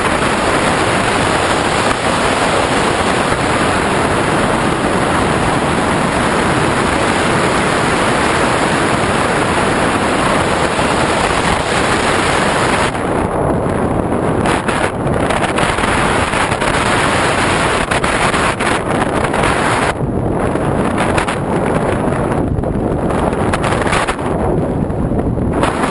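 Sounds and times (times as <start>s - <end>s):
air rushing over microphone: 0.0s - 25.9s.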